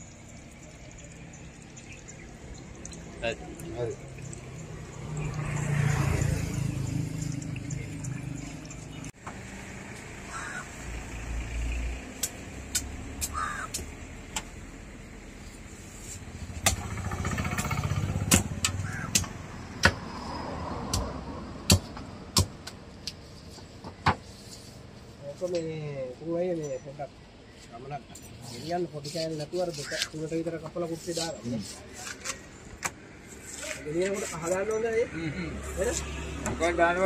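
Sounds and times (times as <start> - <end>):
motor vehicles passing: 0.0 - 37.0.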